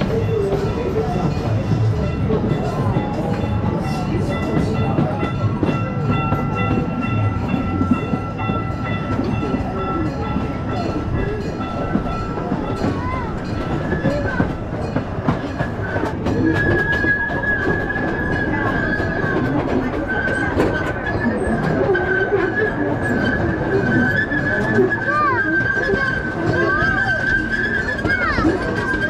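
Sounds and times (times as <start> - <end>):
small train rumbling on track: 0.0 - 29.0
wheels clicking on rails: 0.0 - 29.0.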